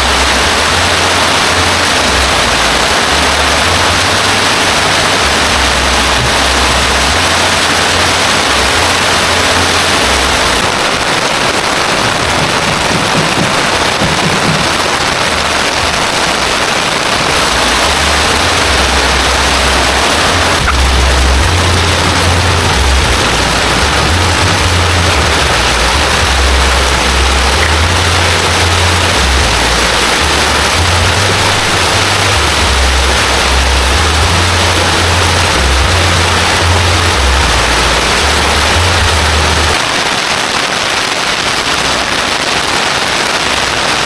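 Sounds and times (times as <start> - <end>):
heavy rain pouring: 0.0 - 44.0.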